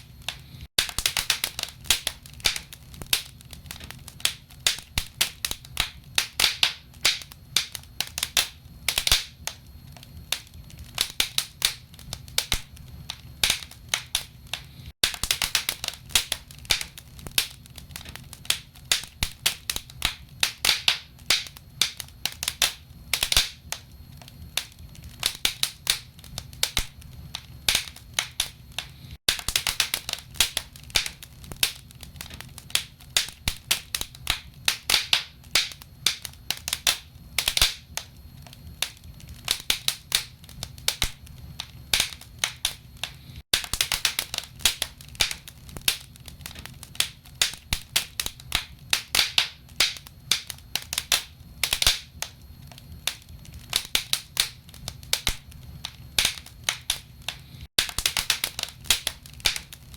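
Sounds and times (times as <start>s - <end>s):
logs crackling and popping: 0.1s - 59.9s.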